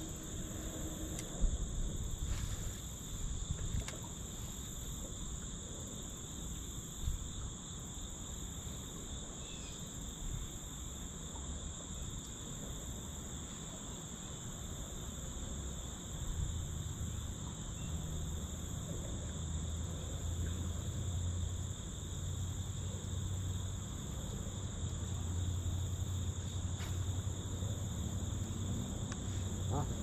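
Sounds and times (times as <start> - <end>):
high insect chorus: 0.0 - 30.0.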